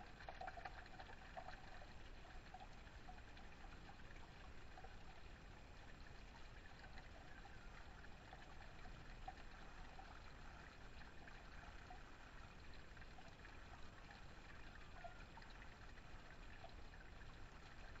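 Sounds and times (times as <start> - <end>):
water trickling and splashing: 0.0 - 18.0.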